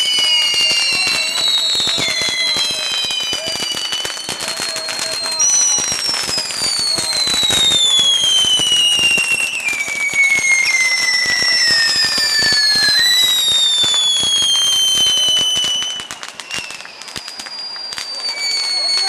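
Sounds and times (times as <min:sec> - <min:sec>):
falling firework whistles: 0:00.0 - 0:19.0
fireworks crackling and popping: 0:00.0 - 0:19.0.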